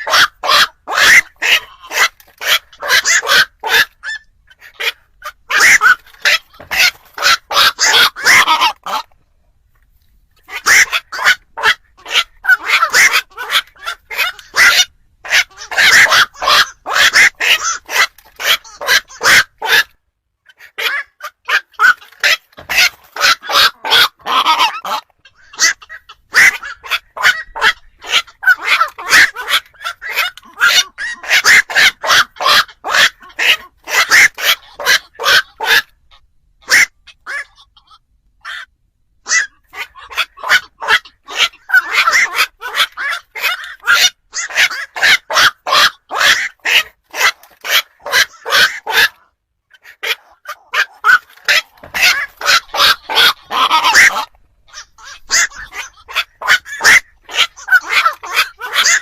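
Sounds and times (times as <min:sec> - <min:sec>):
heron croaking squawks: 0:00.0 - 0:09.2, 0:10.4 - 0:59.0.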